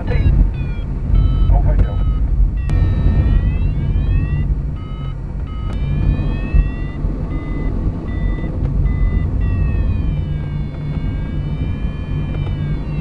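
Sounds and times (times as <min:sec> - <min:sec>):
variometer beeps and rising tones: 0:00.0 - 0:13.0.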